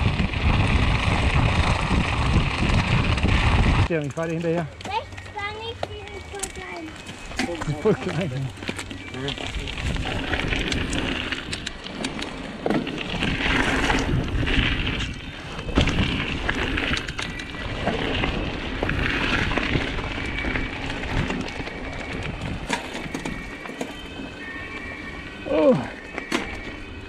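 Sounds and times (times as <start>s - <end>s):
bike clicking and rattling: 0.0s - 27.0s
bike tyres crunching on gravel: 0.0s - 27.0s.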